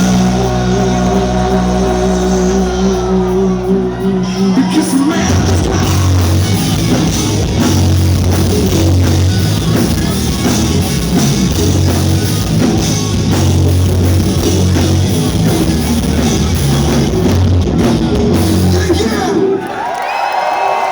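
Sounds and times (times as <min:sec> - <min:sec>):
live rock band playing: 0:00.0 - 0:19.6.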